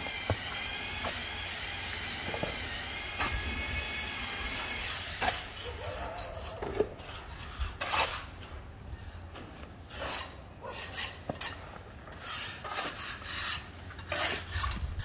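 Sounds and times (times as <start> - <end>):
shovel scraping wet mortar: 0.0 - 15.0.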